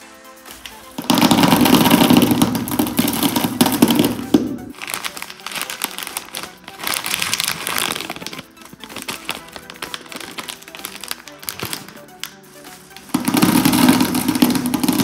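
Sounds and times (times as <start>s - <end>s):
background music: 0.0s - 15.0s
soda fizzing and crackling: 1.0s - 12.3s, 13.0s - 15.0s.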